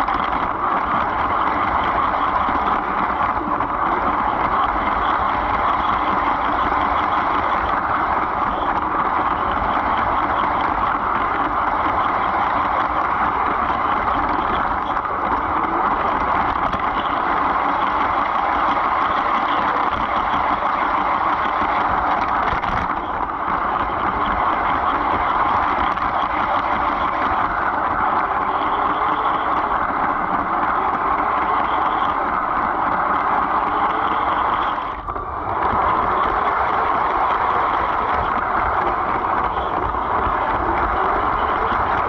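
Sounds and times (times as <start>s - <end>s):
faint motor whine: 0.0s - 42.0s.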